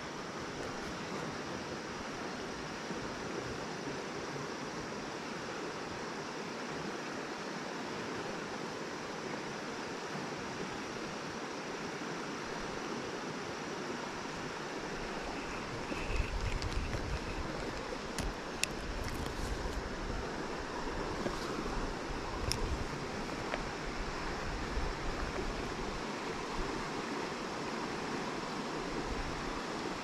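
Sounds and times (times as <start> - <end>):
creek water running over rocks: 0.0 - 30.0.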